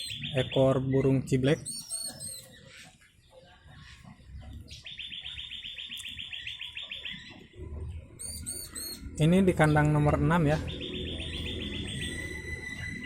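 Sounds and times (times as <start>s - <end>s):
fast bird trill: 0.0s - 2.9s, 4.6s - 7.6s, 8.2s - 13.0s
bird chirps: 0.0s - 13.0s.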